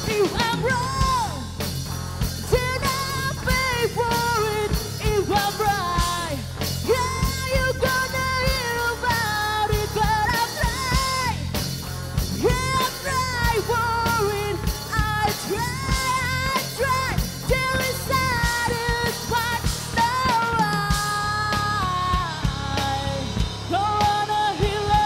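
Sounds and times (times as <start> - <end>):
woman singing into microphone: 0.0 - 1.6, 2.4 - 11.5, 12.3 - 25.0
bass guitar: 0.0 - 25.0
drum kit: 0.0 - 25.0
electric guitar: 0.0 - 25.0.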